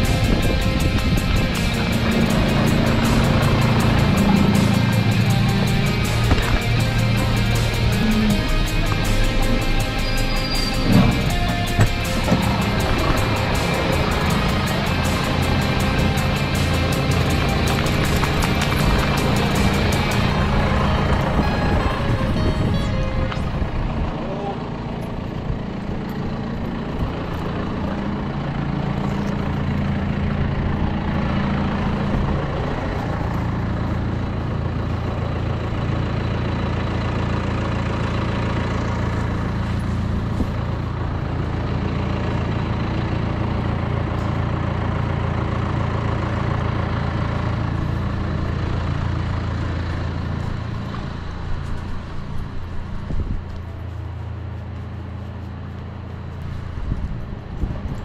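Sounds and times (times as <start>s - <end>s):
engine humming: 0.0s - 58.0s.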